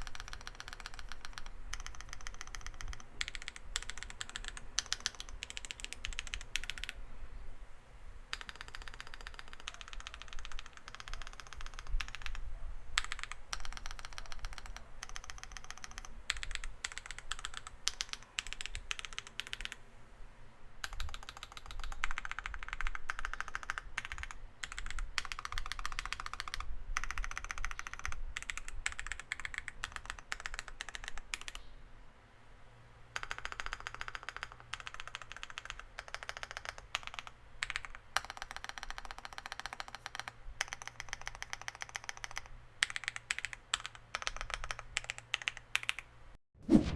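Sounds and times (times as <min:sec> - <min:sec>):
mechanical keyboard typing: 0:00.0 - 0:07.0, 0:08.3 - 0:12.4, 0:13.0 - 0:19.8, 0:20.8 - 0:31.6, 0:33.2 - 0:46.0.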